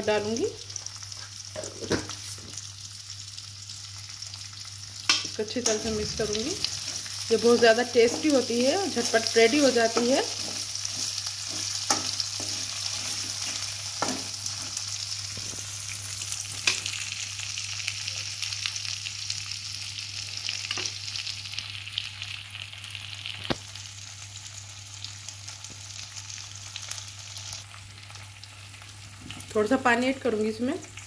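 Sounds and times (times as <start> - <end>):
potato slices sizzling in oil: 0.0 - 31.0.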